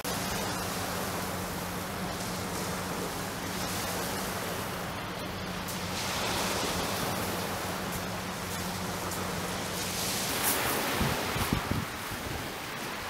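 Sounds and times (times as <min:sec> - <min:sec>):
small waves on shingle beach: 0:00.0 - 0:13.0.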